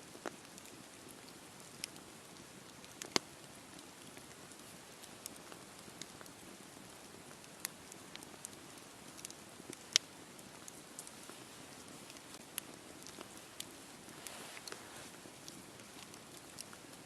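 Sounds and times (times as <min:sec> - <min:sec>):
wood campfire crackling: 0:00.0 - 0:17.0.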